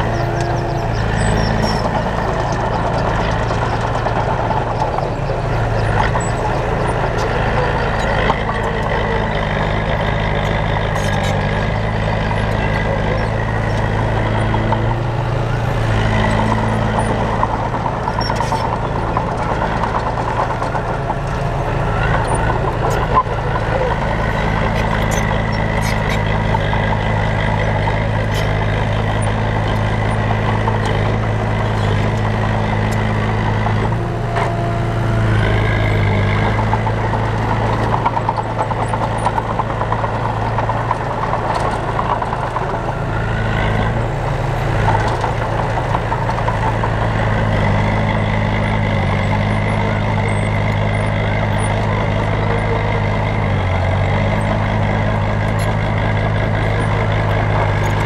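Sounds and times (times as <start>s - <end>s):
heavy diesel engines running: 0.0s - 58.0s.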